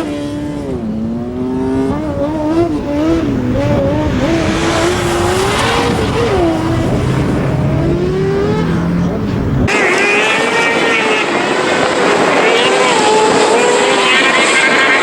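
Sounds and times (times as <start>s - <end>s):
race car engine revving: 0.0s - 15.0s
tyre noise rushing: 0.8s - 15.0s.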